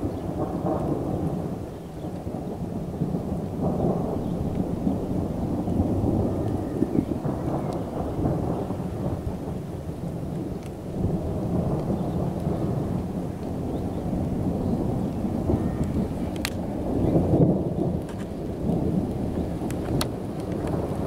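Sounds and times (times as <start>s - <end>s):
rain falling: 0.0s - 21.0s
thunder rumbling: 0.0s - 21.0s.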